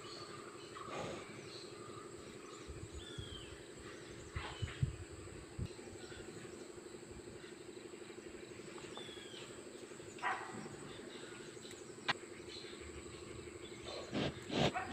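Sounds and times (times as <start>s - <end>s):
chorus of calling animals: 0.0s - 4.8s, 5.7s - 14.9s.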